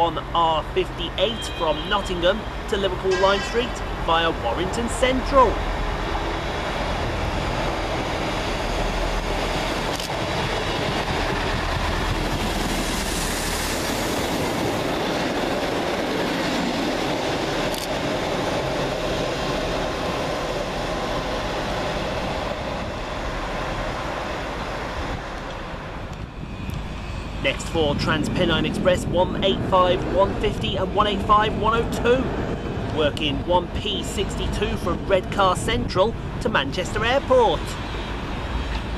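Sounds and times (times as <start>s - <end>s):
diesel train rumbling past: 0.0s - 38.9s.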